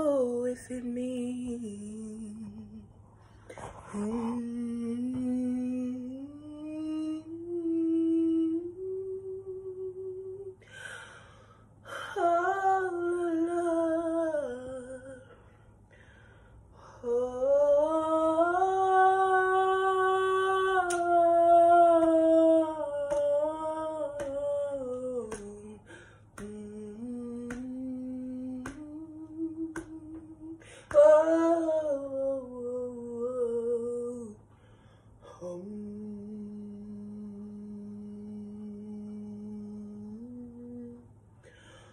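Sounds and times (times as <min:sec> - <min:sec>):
woman singing wordlessly: 0:00.0 - 0:03.0, 0:03.8 - 0:10.8, 0:11.8 - 0:15.5, 0:16.8 - 0:34.4, 0:35.2 - 0:41.2.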